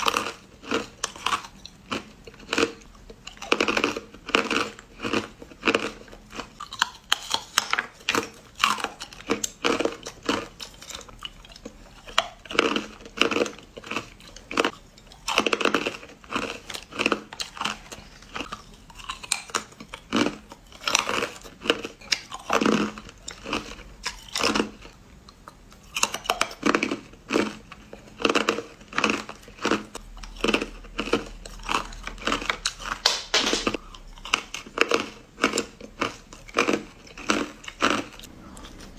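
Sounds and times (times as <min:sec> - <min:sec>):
ice crunching between teeth: 0:00.0 - 0:25.0, 0:25.8 - 0:38.9.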